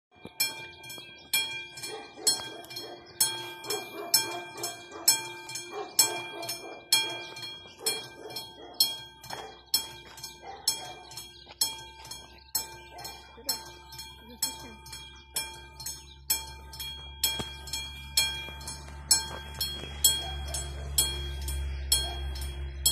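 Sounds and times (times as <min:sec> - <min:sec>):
level crossing warning bell: 0:00.1 - 0:22.9.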